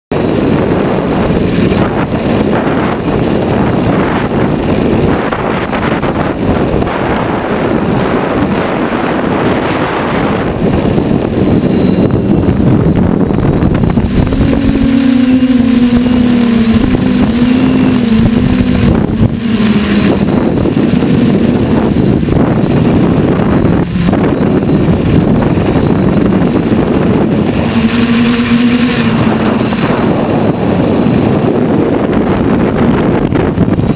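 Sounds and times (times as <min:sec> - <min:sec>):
drone motors and propellers: 0:00.1 - 0:33.9
wind rush on microphone: 0:00.1 - 0:33.9.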